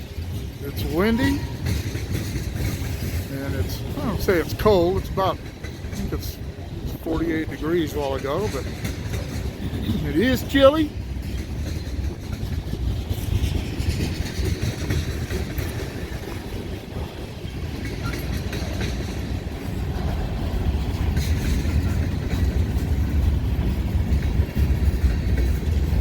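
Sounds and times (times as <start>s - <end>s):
freight train rumbling past: 0.0s - 26.0s
wind buffeting microphone: 0.0s - 26.0s.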